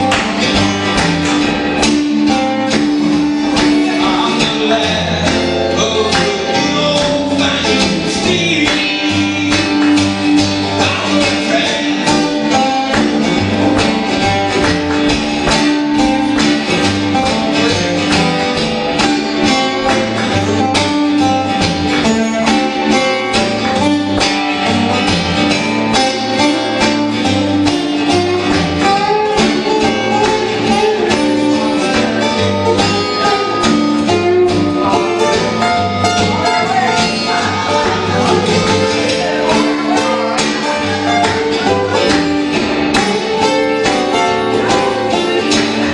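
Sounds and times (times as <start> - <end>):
acoustic guitars playing: 0.0 - 45.9.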